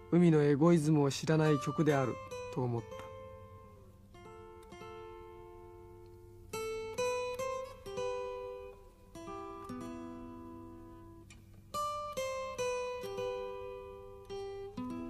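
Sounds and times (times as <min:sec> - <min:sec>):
slow picked guitar melody: 0:00.0 - 0:15.0.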